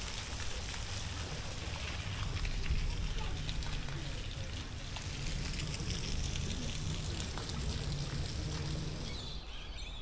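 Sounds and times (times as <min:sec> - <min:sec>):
water trickling into a pond: 0:00.0 - 0:10.0.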